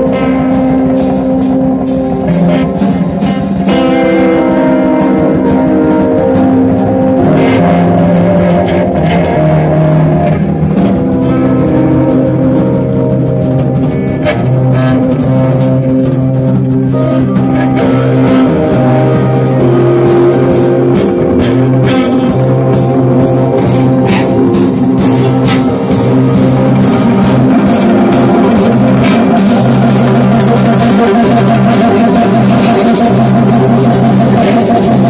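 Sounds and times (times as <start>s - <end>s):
drum kit: 0.0s - 35.0s
electric bass: 0.0s - 35.0s
electric guitar: 0.0s - 35.0s
held keyboard notes: 0.0s - 35.0s.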